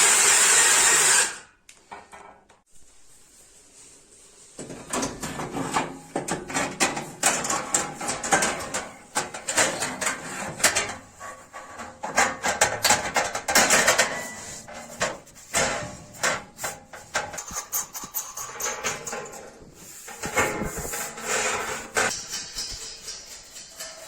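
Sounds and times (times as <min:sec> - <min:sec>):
metal clatter and scraping: 0:04.6 - 0:24.0.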